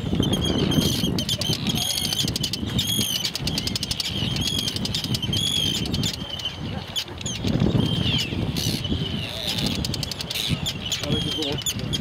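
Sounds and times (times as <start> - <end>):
terns harsh grating calls: 0.1 - 12.0.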